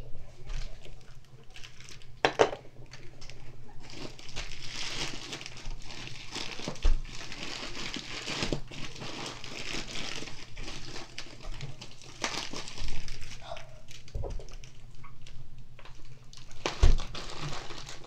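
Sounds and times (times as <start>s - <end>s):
packaging crinkling: 0.4s - 18.0s.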